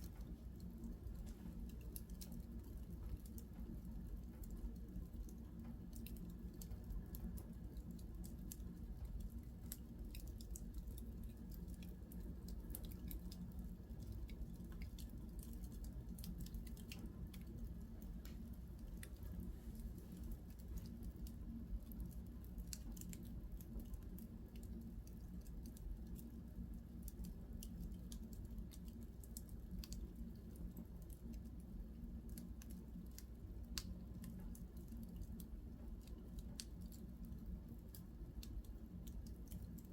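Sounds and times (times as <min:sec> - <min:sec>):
small pops and snaps: 0:00.0 - 0:39.9
steady low rumble: 0:00.0 - 0:39.9
wood fire crackling: 0:00.0 - 0:39.9.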